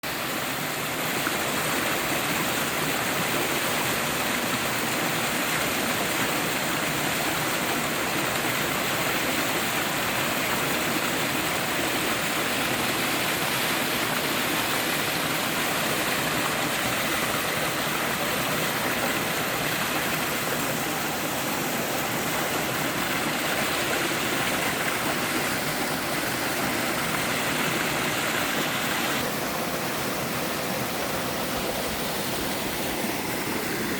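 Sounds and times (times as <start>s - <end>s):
waterfall rushing over bedrock: 0.0s - 33.9s.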